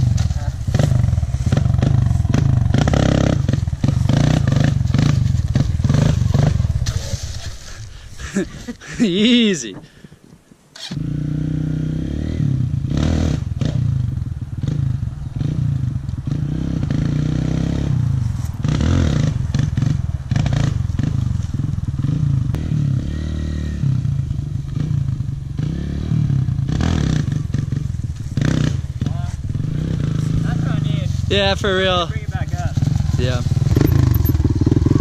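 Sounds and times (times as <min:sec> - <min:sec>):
dirt bike engine revving: 0:00.0 - 0:09.7, 0:10.8 - 0:35.0.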